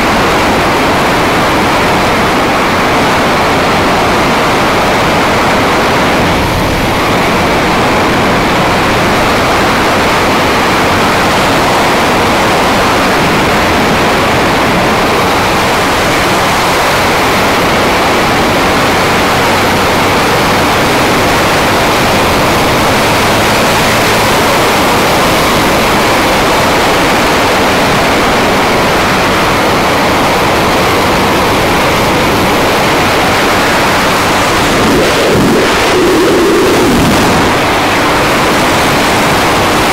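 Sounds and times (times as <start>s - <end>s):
motorcycle engine cruising: 0.0s - 39.9s
wind rushing on microphone: 0.0s - 39.9s.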